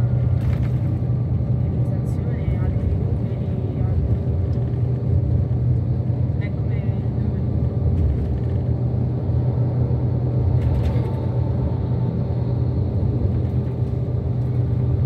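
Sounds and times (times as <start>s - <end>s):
engine and road noise inside vehicle: 0.0s - 15.0s.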